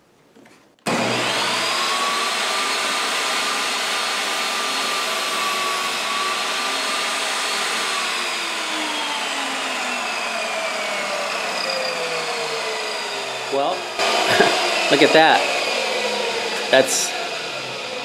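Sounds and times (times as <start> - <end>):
saw cutting wooden strip: 0.8 - 18.0
table saw motor whining: 0.9 - 18.0.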